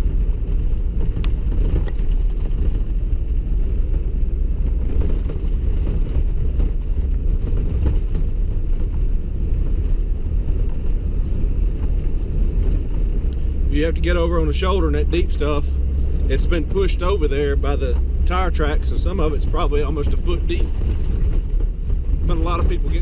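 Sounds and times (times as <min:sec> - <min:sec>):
vehicle driving on snow: 0:00.0 - 0:23.0.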